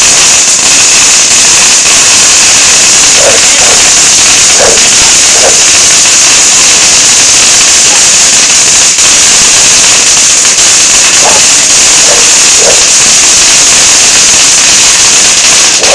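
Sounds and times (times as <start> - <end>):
firecrackers crackling: 0.0 - 15.9.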